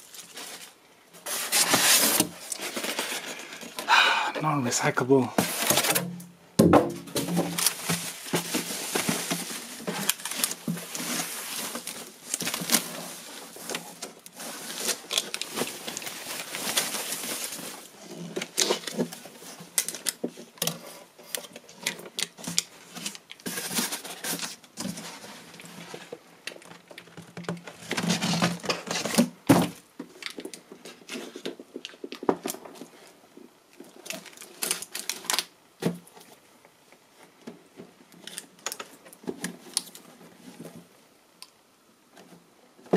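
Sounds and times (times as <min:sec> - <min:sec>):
packing paper and foam rustling: 0:00.0 - 0:06.2, 0:07.0 - 0:36.4, 0:37.1 - 0:41.3.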